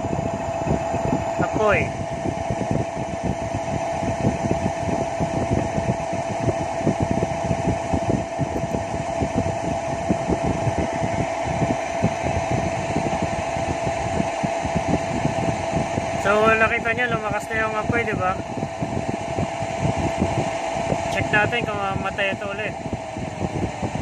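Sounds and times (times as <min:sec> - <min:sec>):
mechanical drone with whine: 0:00.0 - 0:24.0.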